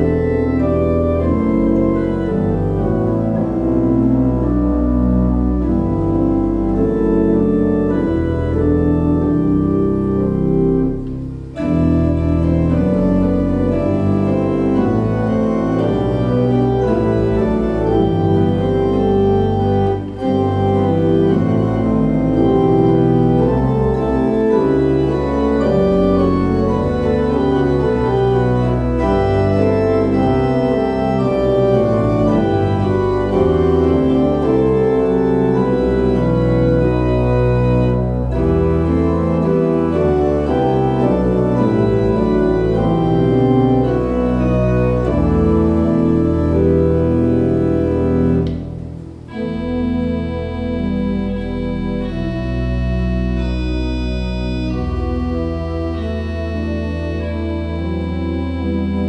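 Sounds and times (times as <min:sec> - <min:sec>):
pipe organ playing chords: 0:00.0 - 0:59.0.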